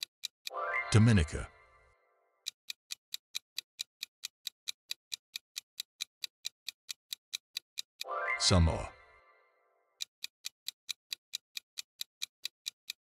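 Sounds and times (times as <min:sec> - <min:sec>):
clock-like timer ticking: 0:00.0 - 0:01.7, 0:02.4 - 0:09.2, 0:10.0 - 0:13.0.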